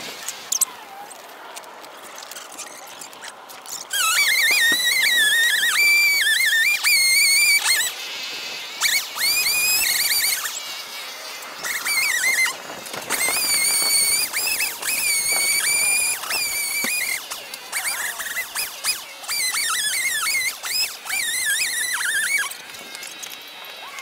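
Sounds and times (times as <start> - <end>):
chainsaw high-pitched whine: 3.9 - 24.0.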